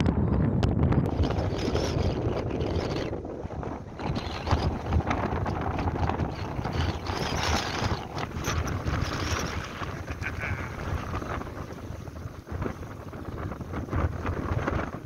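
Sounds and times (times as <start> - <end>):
wind buffeting microphone: 0.0 - 15.0
small waves washing ashore: 1.1 - 15.0.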